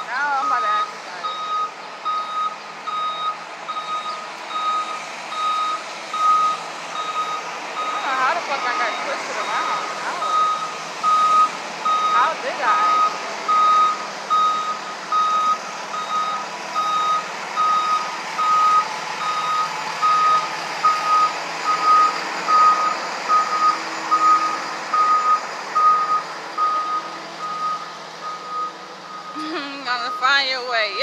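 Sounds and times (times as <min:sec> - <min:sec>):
street noise: 0:00.0 - 0:31.0
truck reversing alarm beeping: 0:00.0 - 0:31.0.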